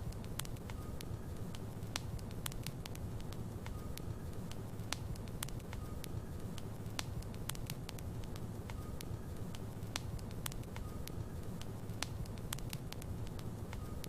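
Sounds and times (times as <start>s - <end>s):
logs crackling and popping in fire: 0.0s - 14.0s
low rumble of flames: 0.0s - 14.0s.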